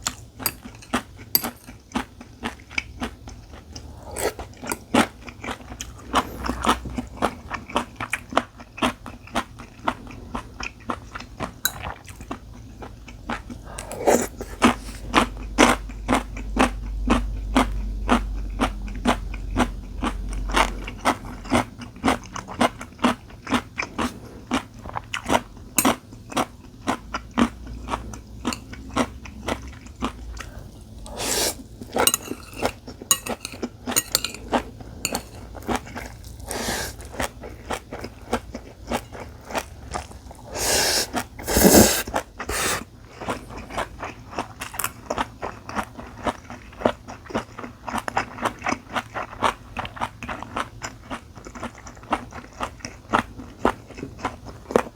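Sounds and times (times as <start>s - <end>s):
chewing and biting food: 0.1s - 54.9s.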